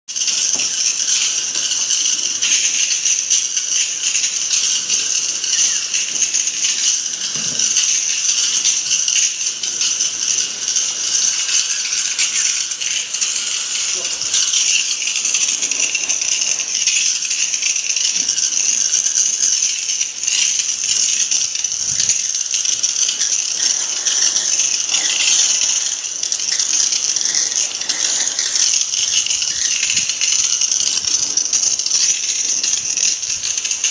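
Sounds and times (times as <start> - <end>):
hose spray hissing: 0.1 - 33.9.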